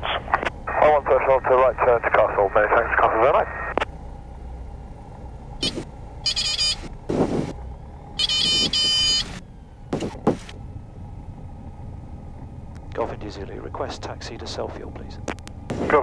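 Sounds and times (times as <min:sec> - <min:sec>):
airplane engine droning: 0:00.0 - 0:16.0.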